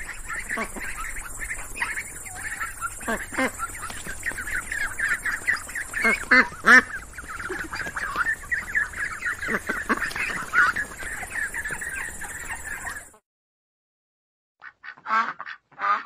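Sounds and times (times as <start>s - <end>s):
ducks quacking: 0.0s - 13.2s, 14.6s - 16.0s.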